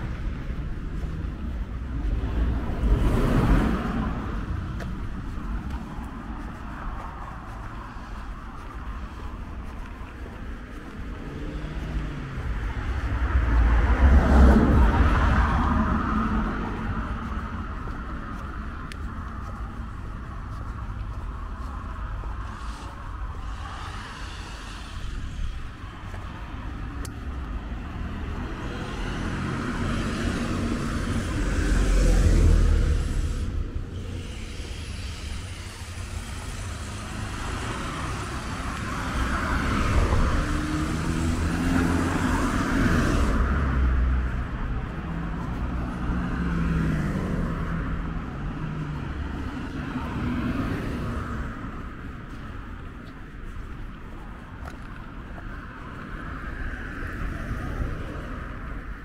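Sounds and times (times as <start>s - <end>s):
cars passing close by: 0.0s - 59.0s.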